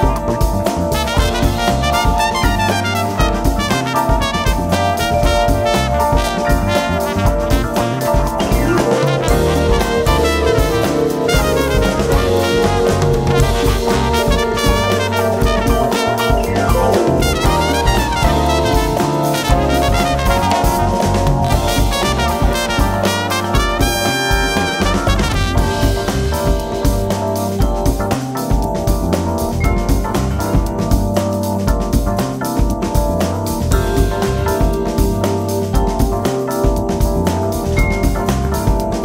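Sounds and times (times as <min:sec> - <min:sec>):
steady drum beat: 0:00.0 - 0:39.0
upbeat instrumental music: 0:00.0 - 0:39.0.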